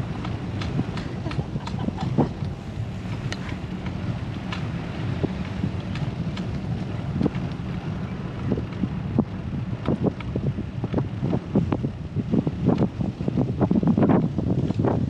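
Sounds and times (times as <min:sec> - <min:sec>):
steady low rumble: 0:00.0 - 0:15.0
wind rushing over microphone: 0:00.0 - 0:15.0.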